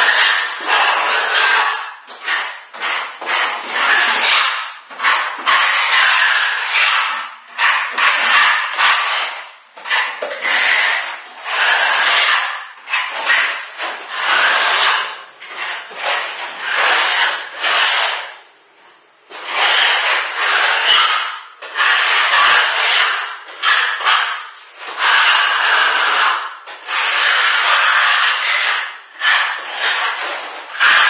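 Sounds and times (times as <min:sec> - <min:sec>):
trowel scraping floor: 0:00.0 - 0:18.5, 0:19.3 - 0:31.0.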